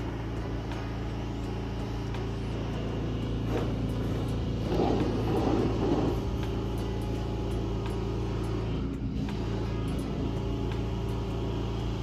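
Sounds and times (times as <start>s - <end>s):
pressure washer motor hum: 0.0s - 12.0s.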